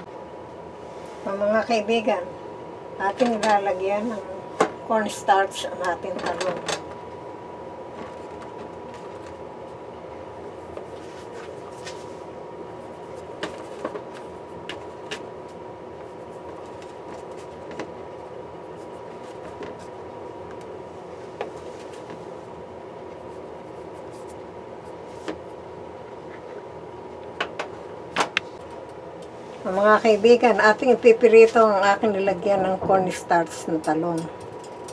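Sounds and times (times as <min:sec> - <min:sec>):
steady hum: 0:00.0 - 0:34.9.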